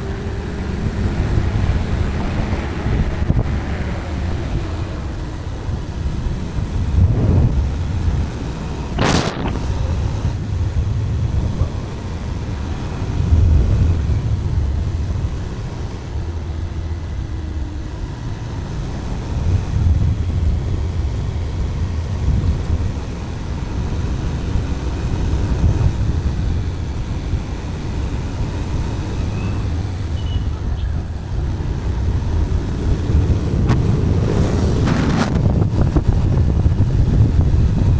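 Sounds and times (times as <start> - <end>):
low rumbling wind buffet: 0.0 - 37.9
motorcycle engine riding: 0.0 - 37.9.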